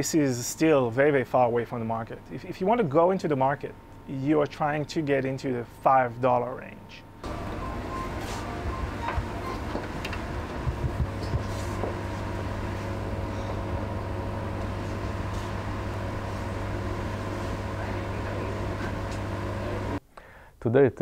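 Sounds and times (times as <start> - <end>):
mechanical hum: 0.0 - 20.1.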